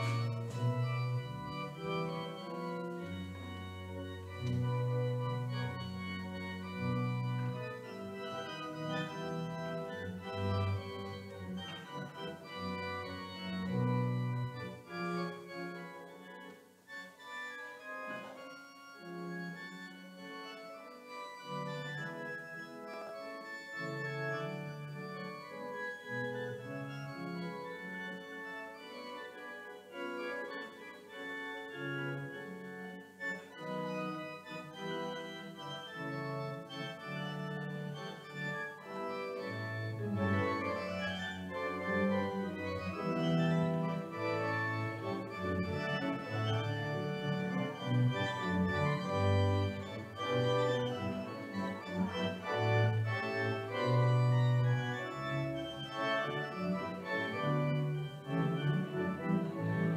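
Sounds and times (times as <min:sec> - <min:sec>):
church organ playing sustained chords: 0:00.0 - 0:59.9.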